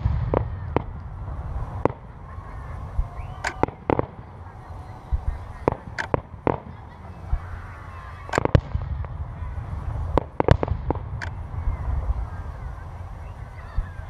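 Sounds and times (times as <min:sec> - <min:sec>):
fireworks bursting with sharp bangs: 0:00.0 - 0:14.0.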